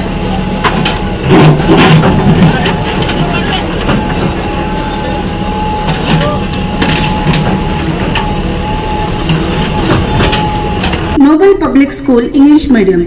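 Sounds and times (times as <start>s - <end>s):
diesel engine running with whine: 0.0s - 13.0s.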